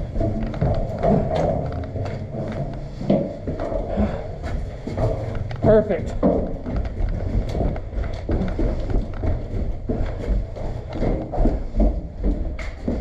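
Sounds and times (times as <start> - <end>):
quick footsteps: 0.0 - 13.0.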